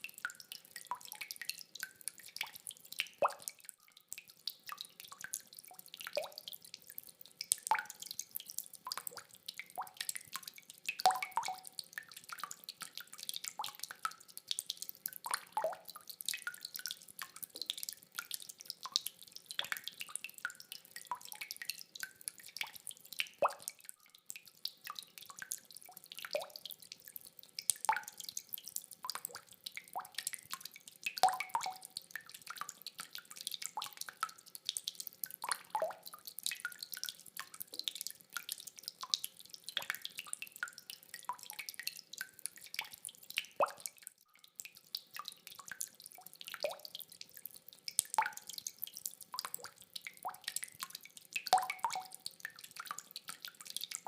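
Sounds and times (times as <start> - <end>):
water drops dripping: 0.0 - 54.0.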